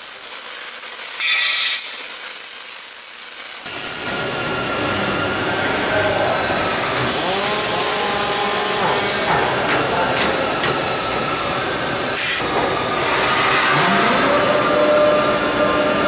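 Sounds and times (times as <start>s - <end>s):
constant machine noise: 0.0s - 16.0s.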